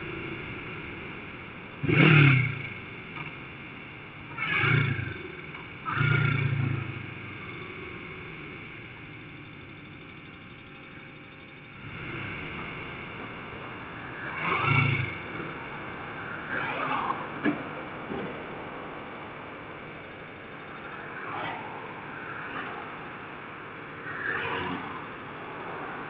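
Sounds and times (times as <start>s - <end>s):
motorcycle engines revving: 0.0s - 26.0s
steady background rumble: 0.0s - 26.0s.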